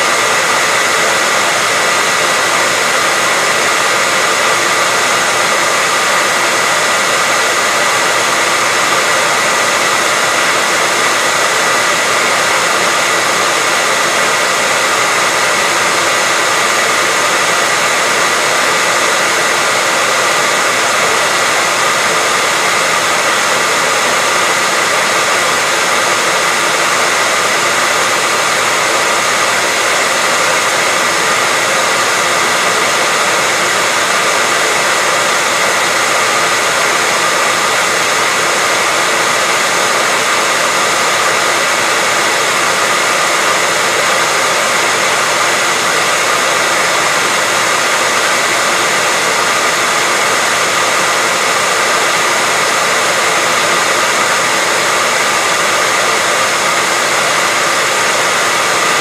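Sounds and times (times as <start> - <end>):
hairdryer blowing air: 0.0 - 59.0.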